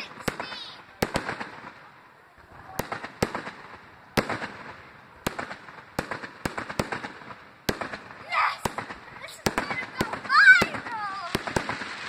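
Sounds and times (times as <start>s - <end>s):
crackling sparkle: 0.0s - 12.0s
fireworks bangs: 0.0s - 12.0s.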